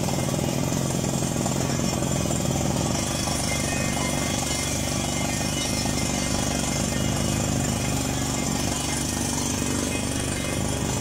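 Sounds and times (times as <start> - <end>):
drill hammer hammering rapidly: 0.0 - 11.0
engine and air compressor running: 0.0 - 11.0.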